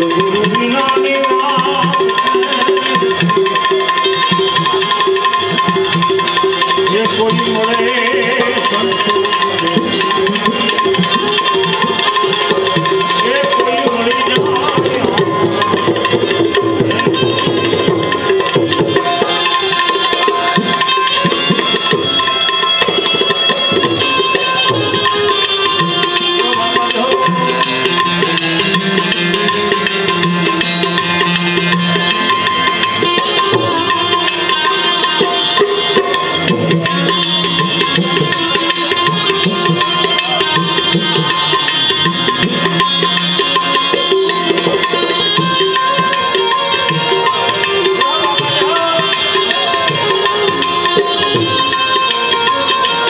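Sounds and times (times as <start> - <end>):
melodic accompaniment: 0.0 - 53.0
tabla drumming: 0.0 - 53.0.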